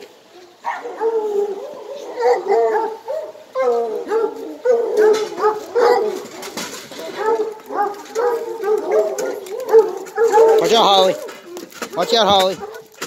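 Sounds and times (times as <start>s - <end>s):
hounds barking and baying: 0.0s - 13.0s.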